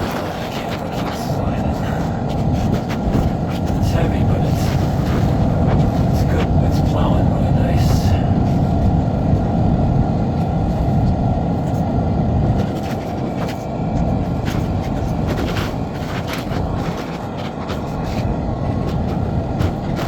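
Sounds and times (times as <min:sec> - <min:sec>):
vehicle rumbling: 0:00.0 - 0:20.0.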